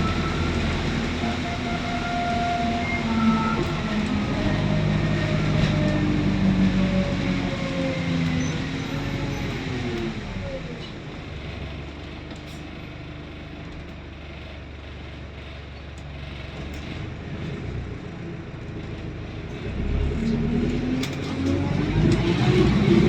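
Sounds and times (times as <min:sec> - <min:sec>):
bus pulling away: 0:00.0 - 0:13.4, 0:16.0 - 0:23.0
bus diesel engine idling: 0:00.0 - 0:20.4.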